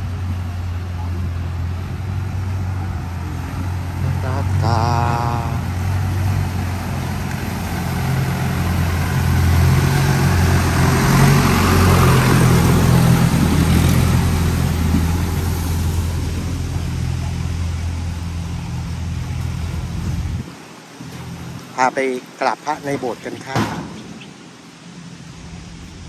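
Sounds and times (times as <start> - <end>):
boat engine speeding past: 0.0 - 26.0.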